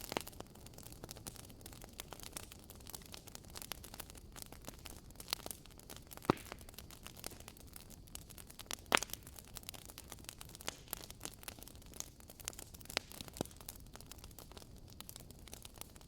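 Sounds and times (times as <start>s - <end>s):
campfire crackling and popping: 0.0s - 16.0s
faint low hiss: 0.0s - 16.0s.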